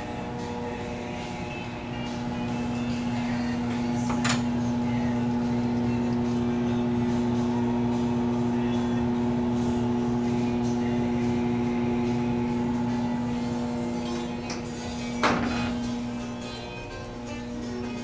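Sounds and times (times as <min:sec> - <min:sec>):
engine room machinery hum: 0:00.0 - 0:18.0.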